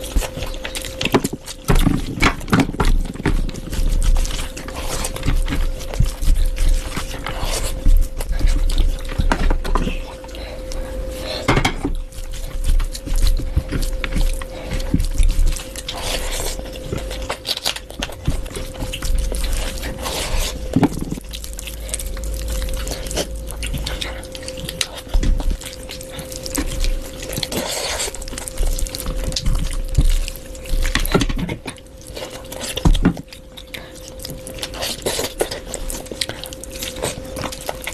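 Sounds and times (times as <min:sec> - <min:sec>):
faint hum: 0:00.0 - 0:37.9
person chewing and biting food: 0:00.0 - 0:37.9.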